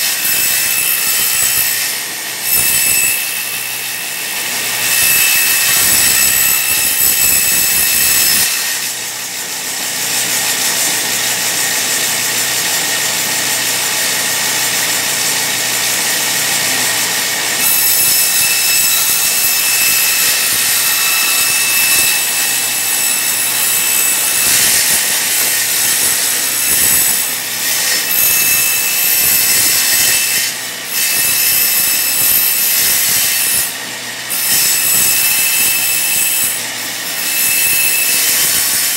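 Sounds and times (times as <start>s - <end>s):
circular saw whining: 0.0s - 38.9s.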